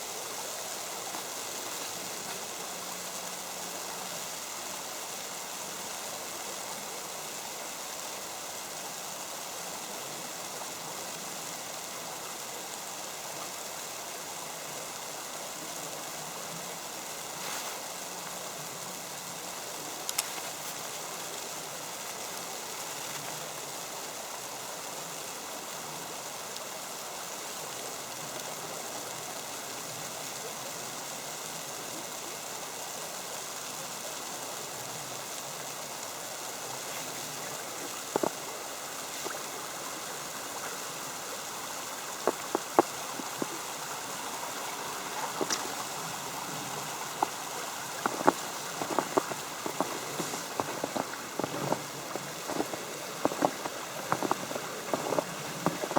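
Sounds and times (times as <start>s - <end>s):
creek water flowing: 0.0s - 55.9s.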